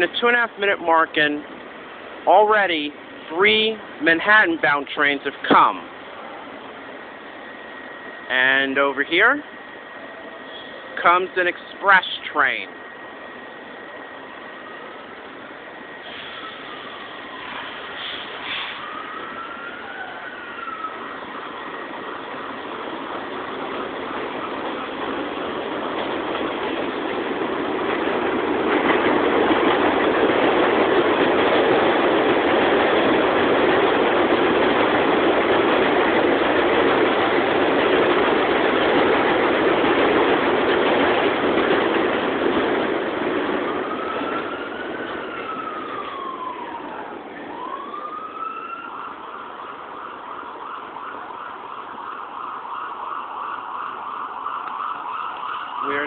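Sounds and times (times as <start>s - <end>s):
subway train on track: 0.0s - 56.0s
emergency vehicle siren wailing: 9.0s - 56.0s.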